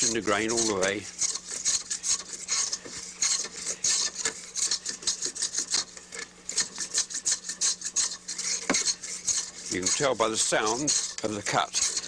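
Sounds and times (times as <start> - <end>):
hand plane scratchy shaving: 0.0 - 12.0.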